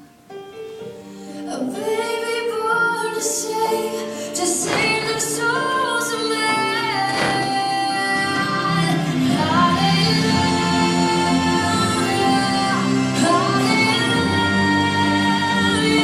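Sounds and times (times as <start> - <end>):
woman singing worship song: 1.4 - 16.0.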